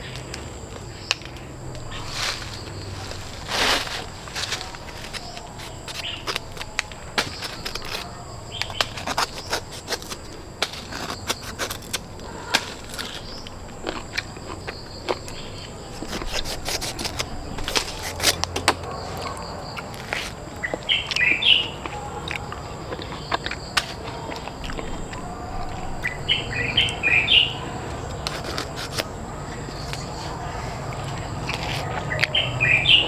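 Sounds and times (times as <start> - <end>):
bird chirping: 0.0 - 33.0.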